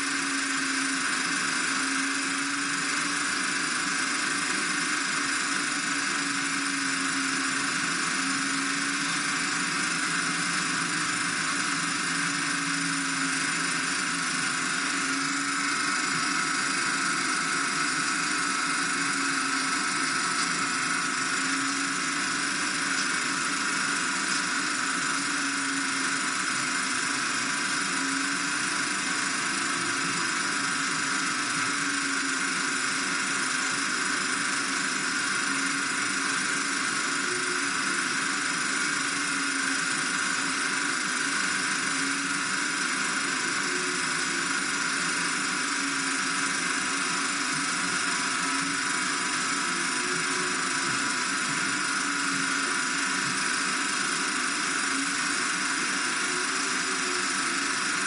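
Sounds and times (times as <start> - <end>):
steady whirring hiss: 0.0 - 58.0.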